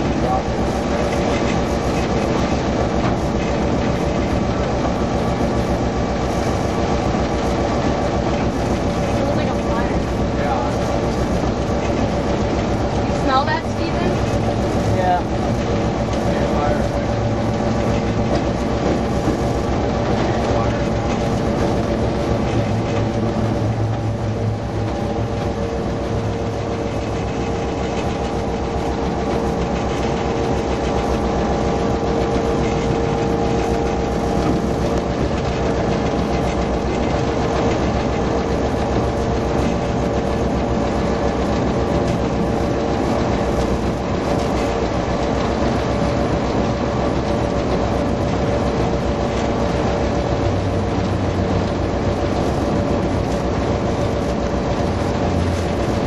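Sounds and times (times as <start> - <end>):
locomotive engine humming: 0.0 - 56.0
wheels rumbling on rails: 0.0 - 56.0.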